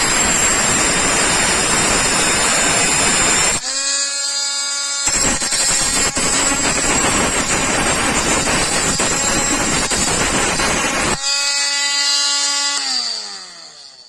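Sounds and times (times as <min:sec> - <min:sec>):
grinder grinding screw: 0:00.0 - 0:14.0
grinder motor whining: 0:00.0 - 0:14.0.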